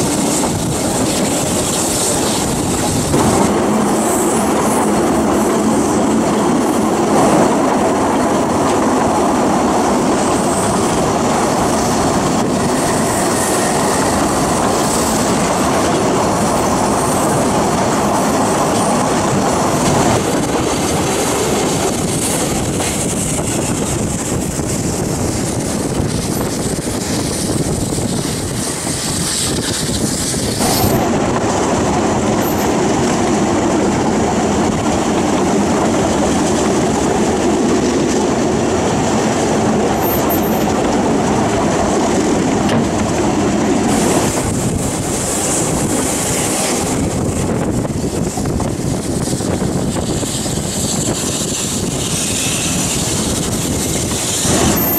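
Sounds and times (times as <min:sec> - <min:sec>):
train wheels running on track: 0:00.0 - 0:54.9.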